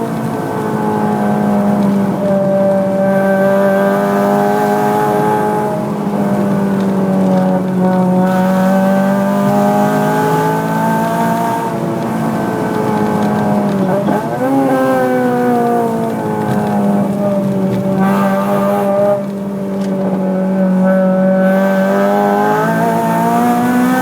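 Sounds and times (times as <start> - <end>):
four-cylinder car engine under throttle: 0.0 - 24.0.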